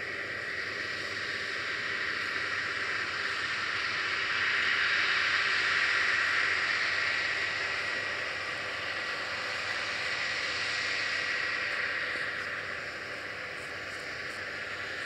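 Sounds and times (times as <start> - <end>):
combine harvester hiss and whine: 0.0 - 15.0.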